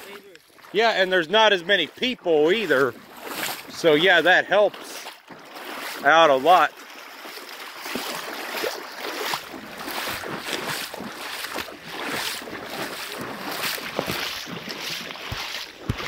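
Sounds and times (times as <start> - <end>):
river water flowing: 0.0 - 16.0
wading steps splashing: 0.0 - 16.0.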